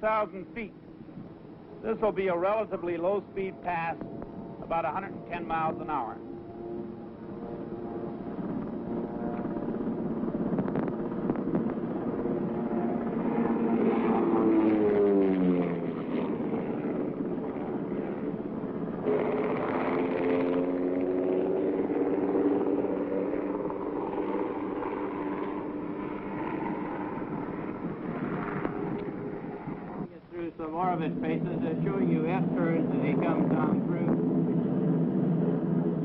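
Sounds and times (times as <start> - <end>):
helicopter flying past: 0.0 - 36.0.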